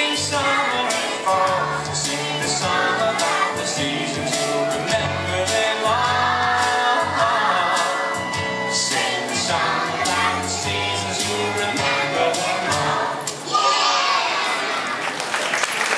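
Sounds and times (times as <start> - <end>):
backing music with bass line: 0.0 - 13.4
children singing together: 0.0 - 14.8.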